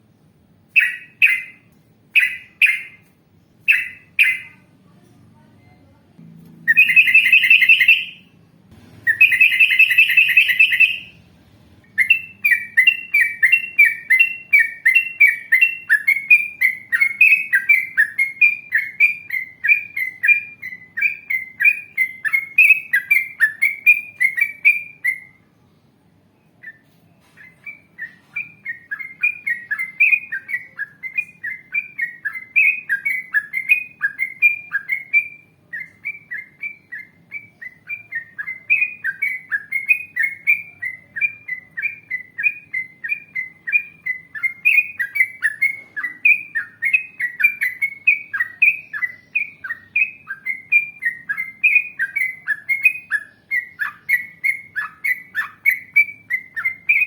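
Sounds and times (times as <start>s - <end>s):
bird chirps: 0.7s - 4.7s, 6.4s - 25.7s, 26.4s - 57.0s.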